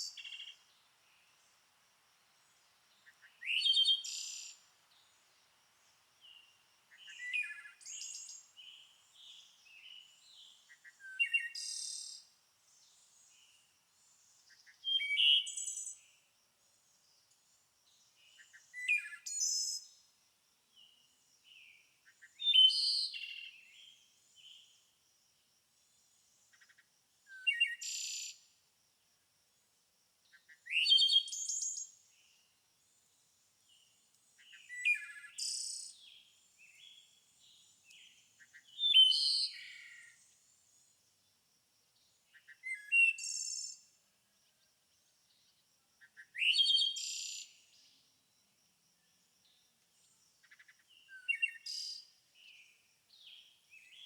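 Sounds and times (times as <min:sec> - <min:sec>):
songbird singing: 0:00.0 - 0:20.1, 0:20.7 - 0:25.0, 0:25.8 - 0:28.6, 0:30.2 - 0:41.3, 0:42.0 - 0:54.0.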